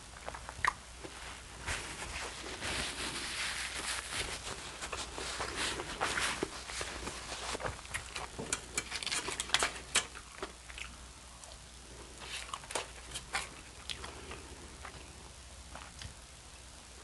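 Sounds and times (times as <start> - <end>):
wet chewing of fries: 0.0 - 1.5, 2.2 - 16.3.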